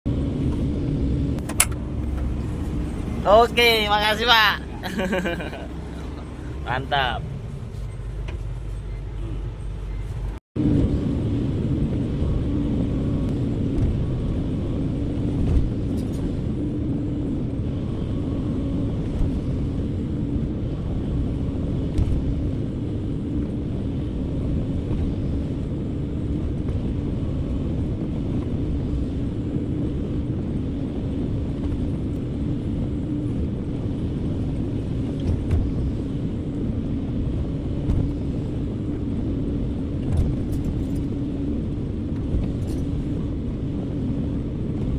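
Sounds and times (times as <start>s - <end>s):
diesel engine rumbling: 0.1s - 44.9s.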